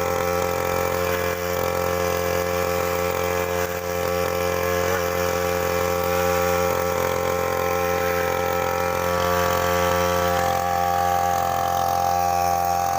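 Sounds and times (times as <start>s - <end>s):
grass cutter engine running: 0.0s - 12.9s.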